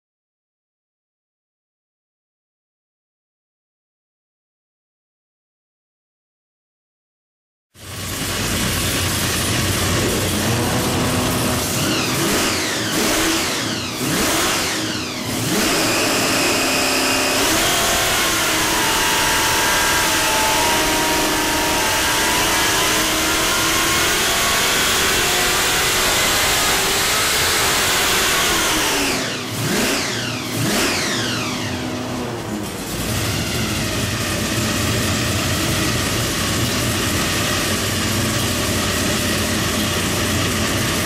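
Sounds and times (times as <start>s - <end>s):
supercharged engine revving: 7.8s - 41.0s.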